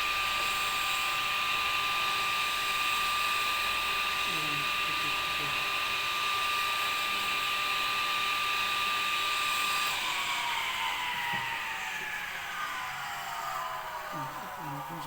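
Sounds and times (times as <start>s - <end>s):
circular saw whining and spinning down: 0.0s - 15.0s.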